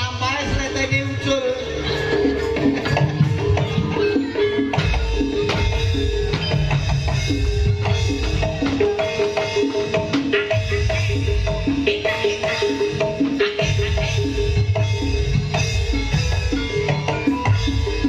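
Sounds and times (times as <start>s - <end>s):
drum strokes: 2.2s - 18.0s.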